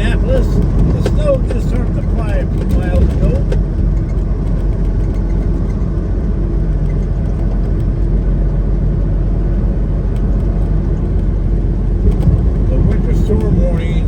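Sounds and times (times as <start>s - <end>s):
road noise: 0.0s - 14.0s
truck diesel engine droning: 0.0s - 14.0s.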